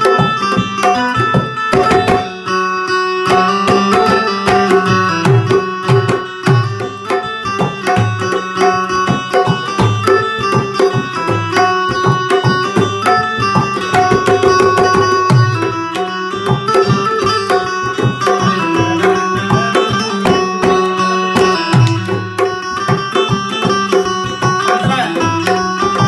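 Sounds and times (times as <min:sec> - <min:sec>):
banjo strummed melody: 0:00.0 - 0:26.0
hand drum brisk rhythm: 0:00.0 - 0:26.0.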